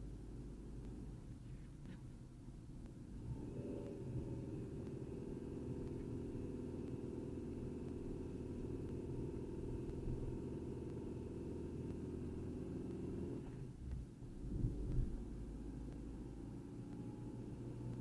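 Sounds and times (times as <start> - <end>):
car engine humming: 0.0 - 18.0
road noise: 2.8 - 18.0.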